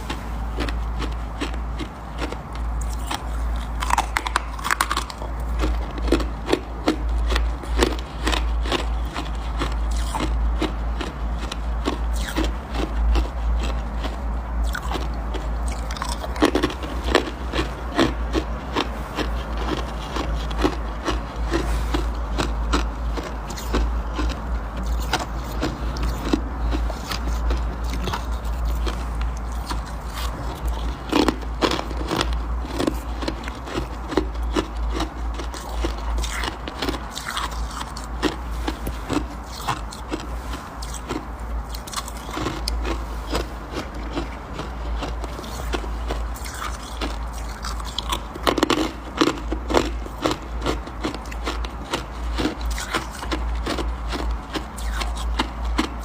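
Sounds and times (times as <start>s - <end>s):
biting and chewing frost: 0.0s - 56.0s
steady low hum: 0.0s - 56.0s.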